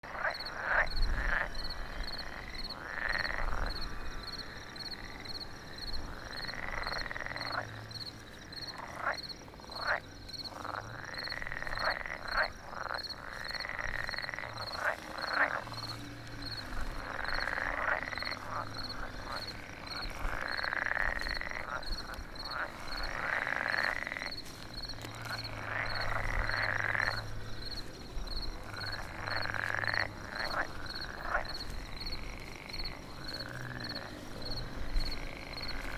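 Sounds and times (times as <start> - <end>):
frogs croaking: 0.0 - 35.9.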